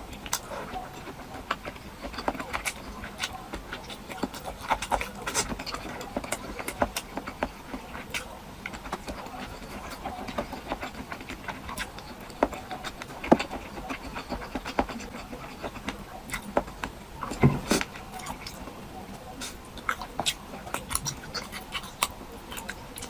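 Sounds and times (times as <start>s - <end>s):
person chewing and smacking: 0.0s - 23.0s.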